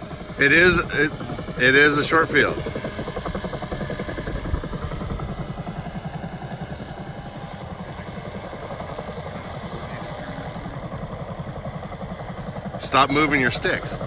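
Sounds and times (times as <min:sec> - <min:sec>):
model helicopter rotor beat: 0:00.0 - 0:14.0.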